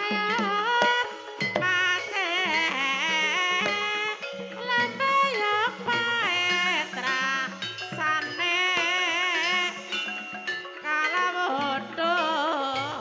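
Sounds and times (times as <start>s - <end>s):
drum strokes: 0.0s - 13.0s
gamelan-style ensemble: 0.0s - 13.0s
person singing high melody: 0.0s - 13.0s.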